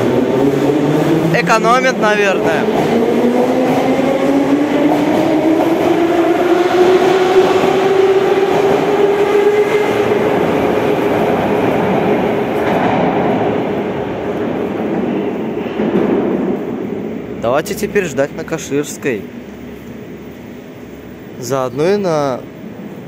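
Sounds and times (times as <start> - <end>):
rail noise: 0.0 - 23.0.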